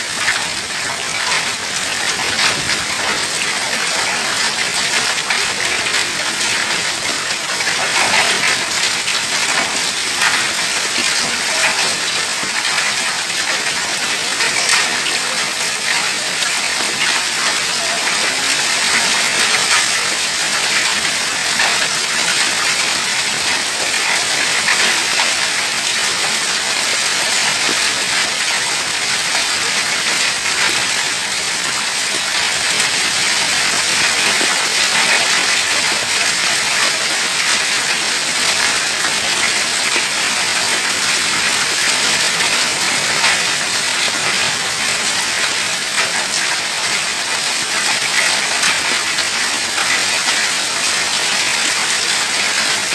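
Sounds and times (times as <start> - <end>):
hail and rain clattering: 0.0 - 52.9.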